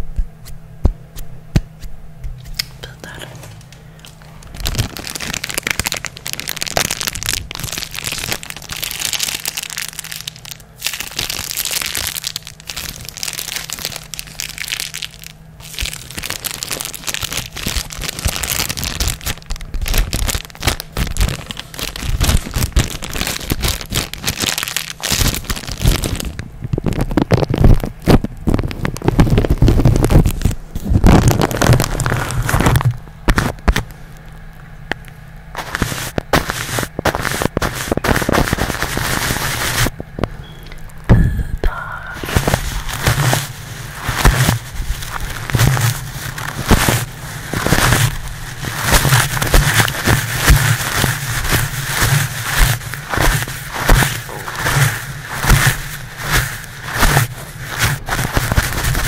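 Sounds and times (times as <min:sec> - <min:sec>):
plastic crinkling: 0:02.5 - 0:40.0, 0:42.2 - 0:59.0.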